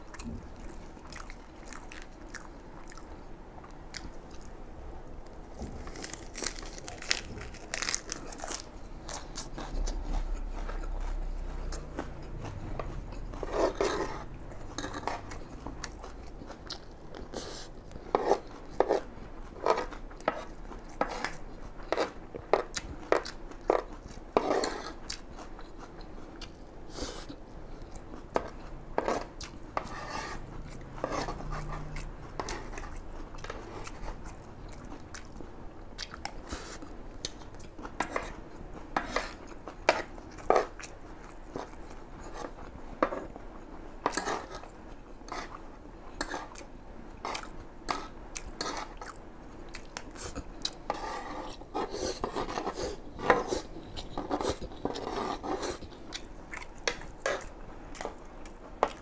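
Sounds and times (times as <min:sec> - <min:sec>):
chewing and crunching: 0:00.0 - 0:04.6, 0:05.5 - 0:59.0.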